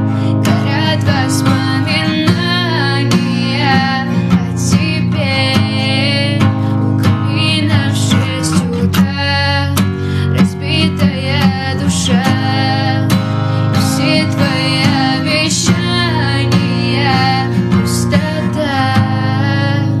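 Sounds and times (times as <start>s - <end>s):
guitar-led instrumental music: 0.0s - 20.0s.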